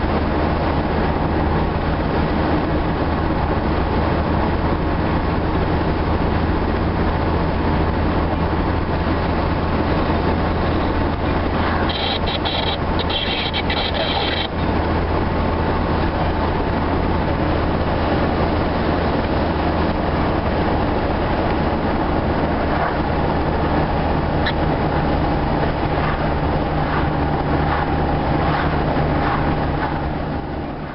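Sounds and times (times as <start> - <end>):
car road noise and engine drone: 0.0 - 30.9.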